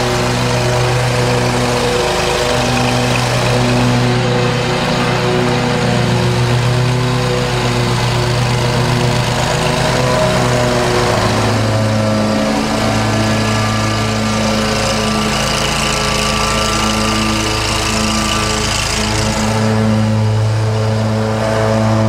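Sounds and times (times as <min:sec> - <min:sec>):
mower engine running: 0:00.0 - 0:22.0.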